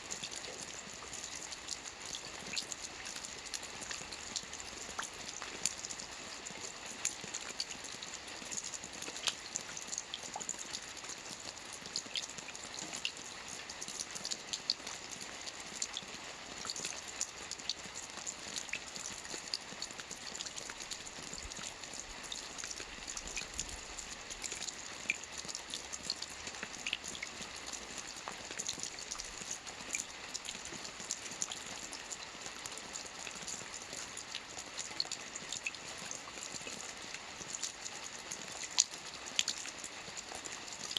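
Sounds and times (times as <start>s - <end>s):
rain falling on a lake: 0.0s - 40.9s.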